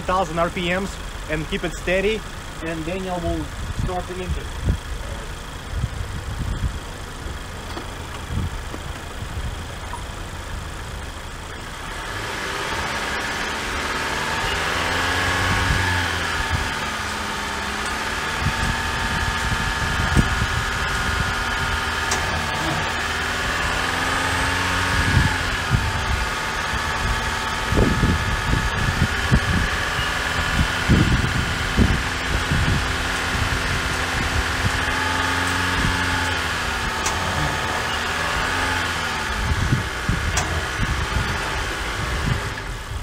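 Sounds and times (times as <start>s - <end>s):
car engine idling and revving: 0.0s - 43.0s.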